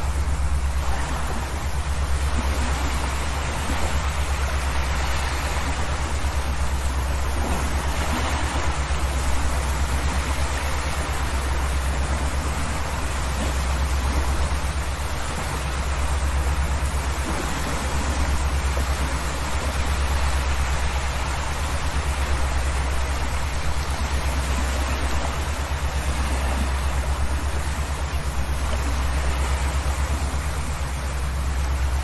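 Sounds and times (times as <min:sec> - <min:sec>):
ferry engines droning: 0:00.0 - 0:32.0
wind and water rushing: 0:00.0 - 0:32.0.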